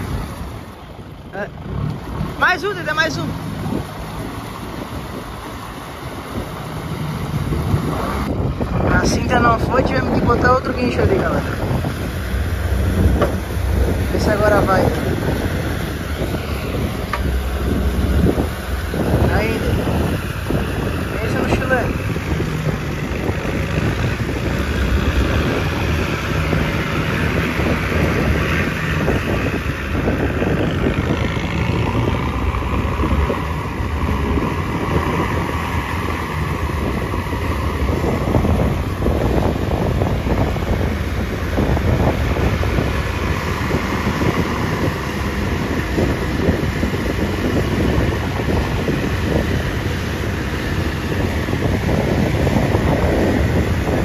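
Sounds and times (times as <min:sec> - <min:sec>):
vehicle engine running: 0:00.0 - 0:54.0
wind buffeting microphone: 0:00.0 - 0:54.0.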